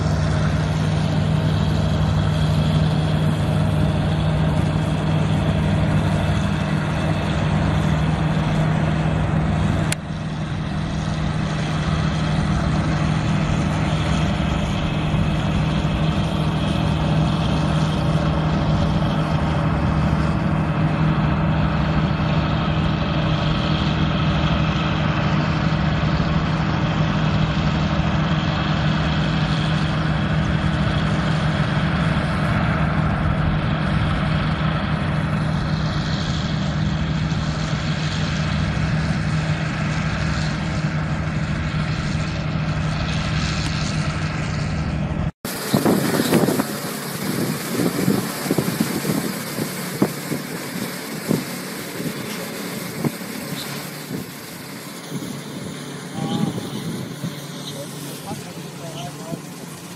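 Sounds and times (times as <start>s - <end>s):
engine humming steadily: 0.0s - 59.9s.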